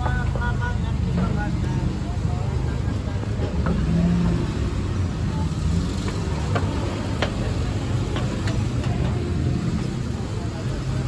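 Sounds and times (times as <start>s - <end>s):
traffic engines rumbling: 0.0s - 11.0s.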